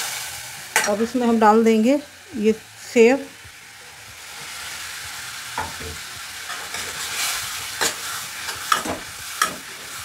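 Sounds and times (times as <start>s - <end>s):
masala sizzling in pan: 0.0s - 10.0s.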